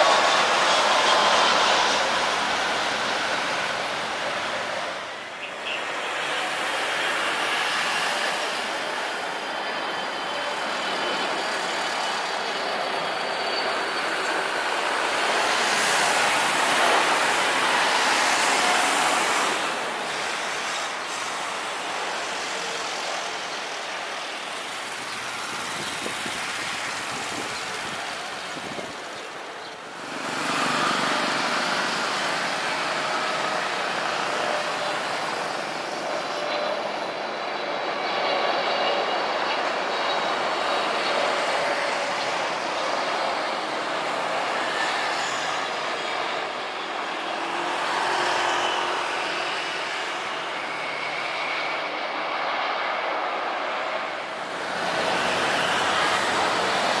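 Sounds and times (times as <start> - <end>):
jet airliner engines rushing: 0.0 - 57.0.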